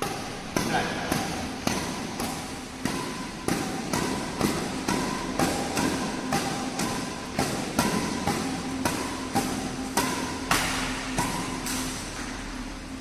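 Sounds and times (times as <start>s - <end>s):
badminton racket hits: 0.0s - 12.5s
steady low hum: 0.0s - 13.0s.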